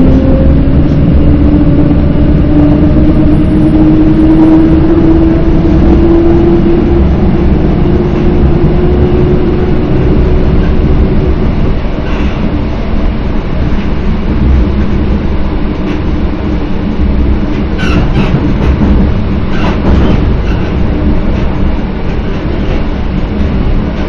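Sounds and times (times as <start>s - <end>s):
train motor whine: 0.0s - 24.0s
train rumble and rattle: 0.0s - 24.0s.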